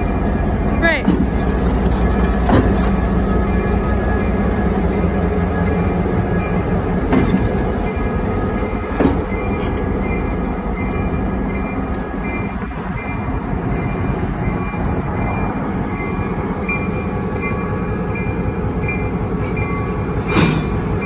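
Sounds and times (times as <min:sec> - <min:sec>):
freight train rumbling by: 0:00.0 - 0:21.0.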